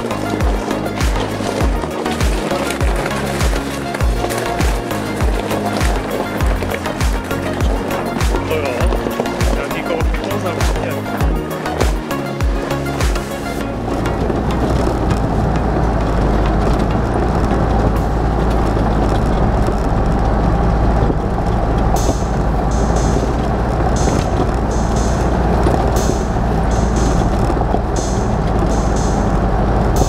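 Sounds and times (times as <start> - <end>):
background music: 0.0 - 30.0
crisp high ticks: 0.0 - 30.0
vehicle engine and tyres rumbling: 0.0 - 30.0.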